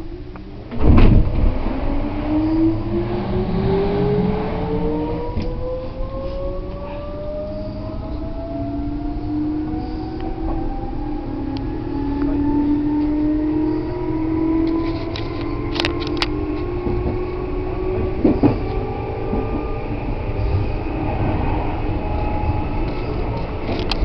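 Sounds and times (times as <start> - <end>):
train motor hum: 0.0 - 24.0.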